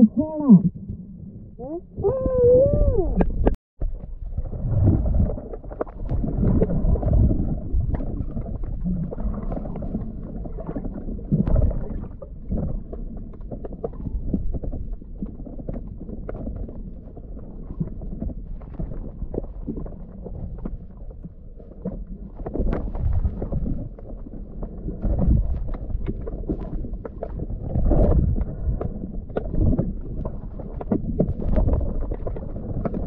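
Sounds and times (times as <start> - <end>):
underwater rumbling wash: 0.0 - 33.0
small underwater crackles: 1.6 - 33.0.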